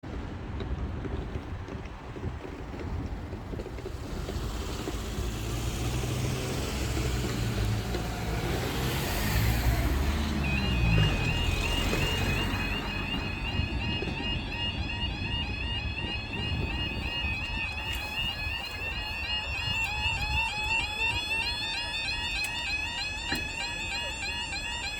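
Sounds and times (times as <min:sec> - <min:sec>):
road traffic passing: 0:00.1 - 0:24.9
vehicle engine: 0:03.3 - 0:24.9
level crossing warbling alarm: 0:03.9 - 0:24.9.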